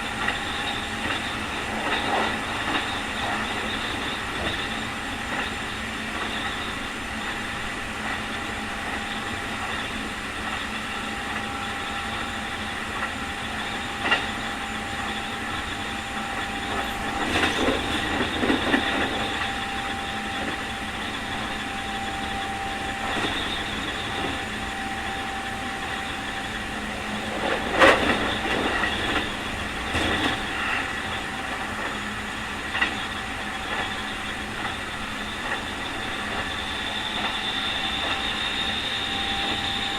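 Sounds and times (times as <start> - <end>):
train motor whine: 0.0 - 39.9
train running noise: 0.0 - 39.9.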